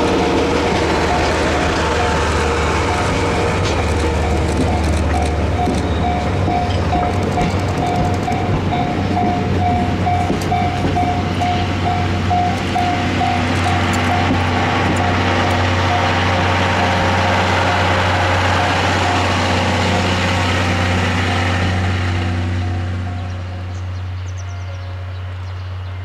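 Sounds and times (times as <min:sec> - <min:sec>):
wheels clacking over rail joints: 0:00.0 - 0:23.4
train wheels rumbling on rails: 0:00.0 - 0:26.0.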